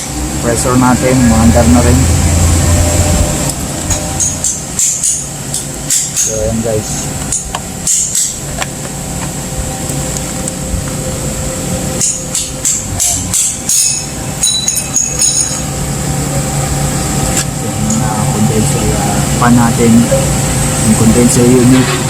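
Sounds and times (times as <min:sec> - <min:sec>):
compressor and fan humming: 0:00.0 - 0:22.0.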